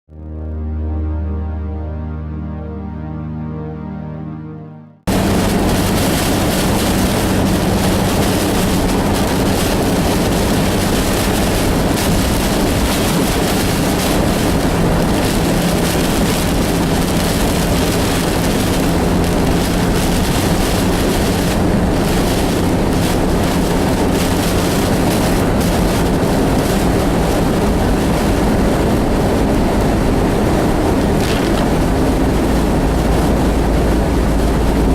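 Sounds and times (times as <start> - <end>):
low hum: 0.1 - 34.9
vehicle road and engine noise: 5.1 - 34.9.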